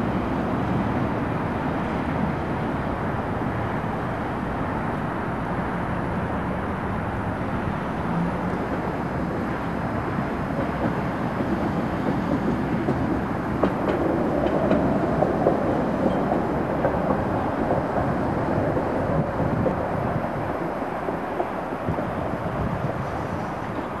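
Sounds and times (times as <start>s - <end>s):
tram running on track: 0.0s - 24.0s.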